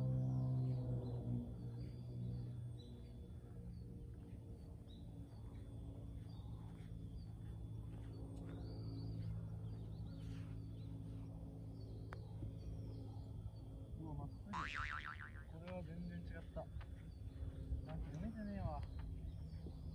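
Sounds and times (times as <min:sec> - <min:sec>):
small birds chirping: 0:00.0 - 0:19.9
soft music of low held tones: 0:00.0 - 0:19.9.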